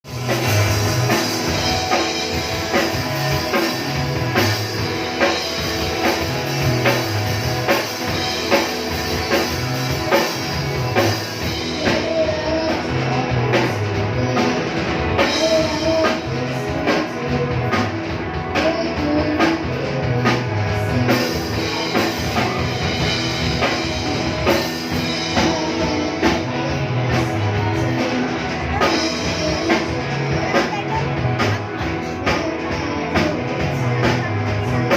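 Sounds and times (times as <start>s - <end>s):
bass line: 0.0s - 34.9s
drum kit beat: 0.0s - 34.9s
electric guitar: 0.0s - 34.9s
rock band playing live: 0.0s - 34.9s.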